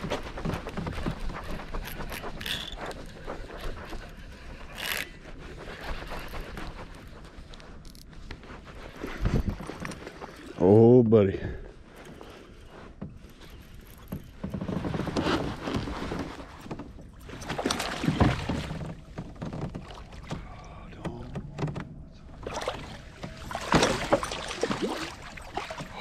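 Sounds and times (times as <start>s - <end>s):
water splashing and sloshing: 0.0s - 26.0s.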